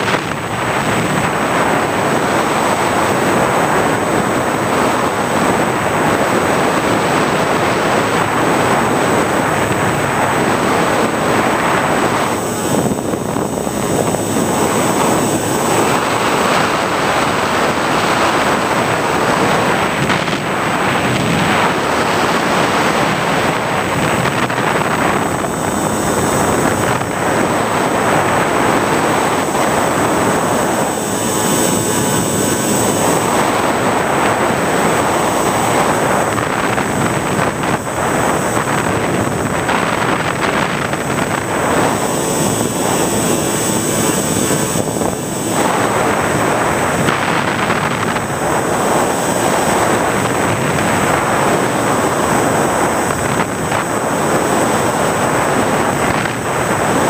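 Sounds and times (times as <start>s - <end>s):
faint high whine: 0.0s - 57.0s
wind and propeller rush: 0.0s - 57.0s.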